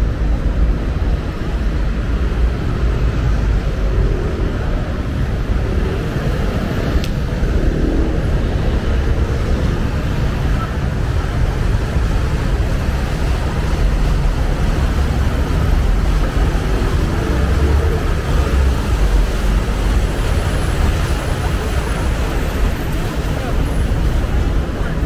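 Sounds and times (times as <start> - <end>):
city street low rumble: 0.0 - 25.0.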